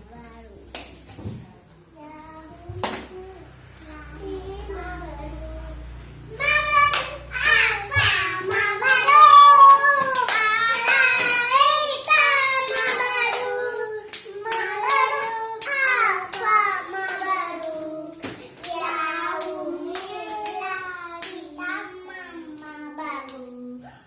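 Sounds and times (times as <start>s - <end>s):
child singing: 1.9s - 23.8s.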